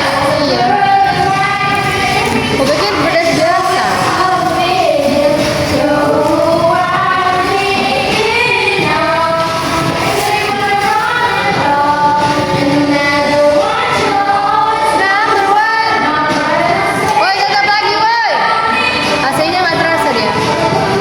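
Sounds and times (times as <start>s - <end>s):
high voice singing over music: 0.0s - 21.0s.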